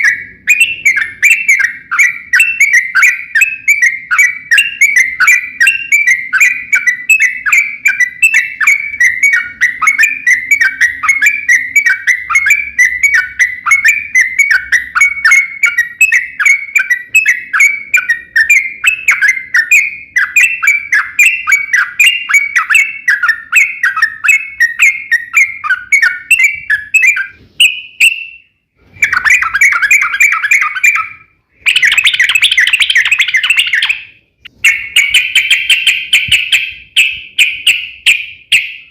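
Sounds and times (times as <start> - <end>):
bulbul singing chirping notes: 0.0 - 38.9.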